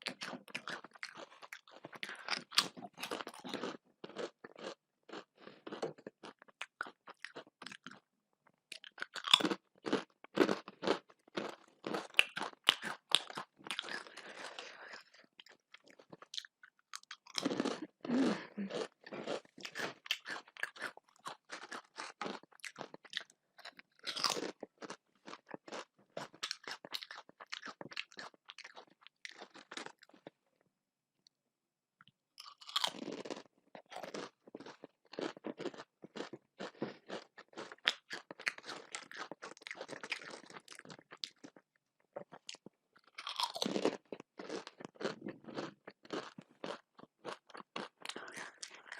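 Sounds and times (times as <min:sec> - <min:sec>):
person chewing and crunching food: 0:00.0 - 0:30.6, 0:32.0 - 0:48.9.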